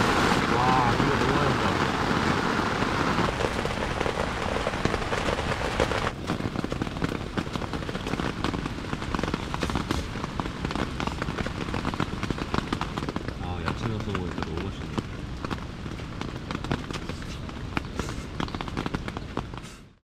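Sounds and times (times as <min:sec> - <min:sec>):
heavy rain falling: 0:00.0 - 0:20.0
raindrop impacts: 0:00.0 - 0:20.0.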